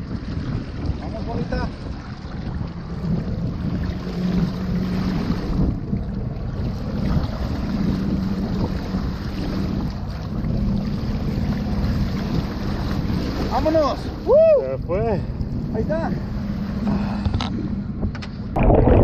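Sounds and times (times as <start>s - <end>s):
boat engine idling hum: 0.0s - 19.0s
water splashing against boat: 0.0s - 19.0s
wind buffeting microphone: 0.0s - 19.0s.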